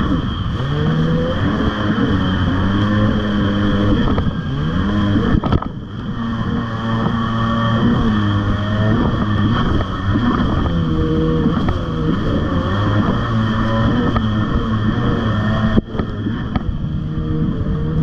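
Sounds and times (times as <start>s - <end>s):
jet ski engine revving: 0.0s - 18.0s.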